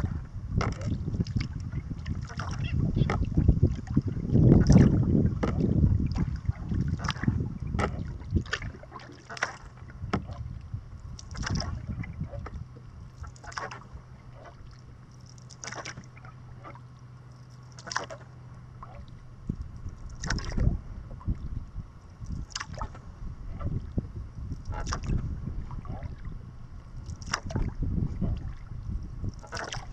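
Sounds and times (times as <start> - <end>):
paddle splashing water: 0.0 - 29.9
wind rumble on microphone: 0.0 - 29.9.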